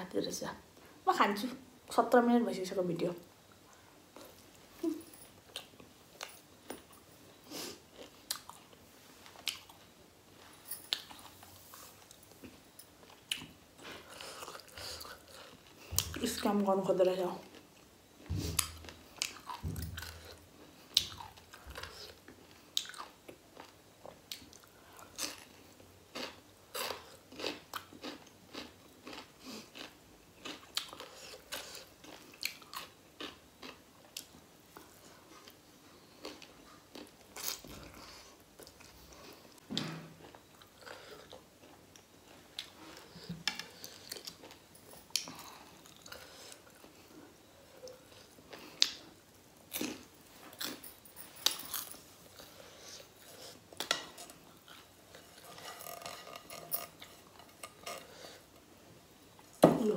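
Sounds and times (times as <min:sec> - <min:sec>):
person chewing and crunching: 0:07.6 - 0:09.9, 0:10.9 - 0:16.2, 0:17.4 - 0:58.5.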